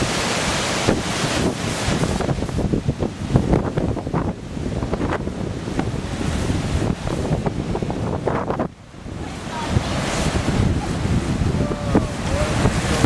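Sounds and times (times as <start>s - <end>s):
heavy surf: 0.0s - 13.0s
wind buffeting microphone: 0.0s - 13.0s.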